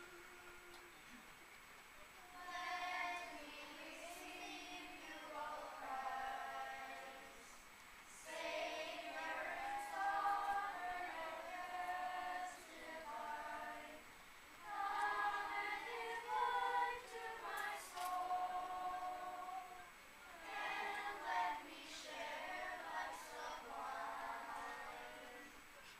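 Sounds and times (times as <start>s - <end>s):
children's choir singing: 2.1s - 25.8s.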